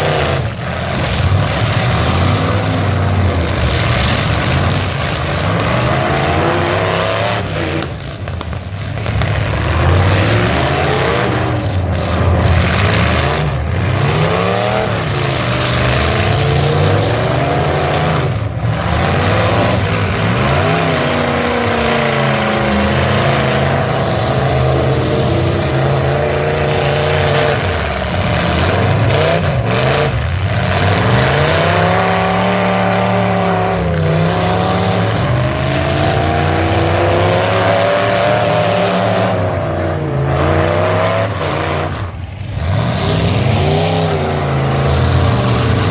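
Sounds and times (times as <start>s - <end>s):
pickup truck engines revving: 0.0s - 45.9s
steady noisy din: 0.0s - 45.9s.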